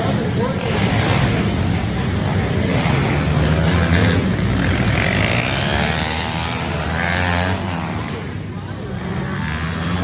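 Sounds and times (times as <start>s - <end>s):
small motorbike engines running: 0.0s - 10.0s.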